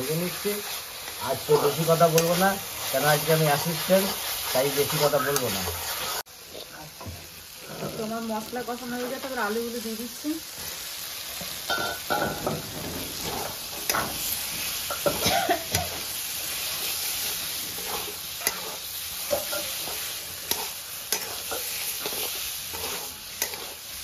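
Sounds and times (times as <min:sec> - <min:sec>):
potatoes sizzling in a pan: 0:00.0 - 0:24.0
spatula scraping a pan: 0:00.1 - 0:08.1, 0:11.4 - 0:24.0.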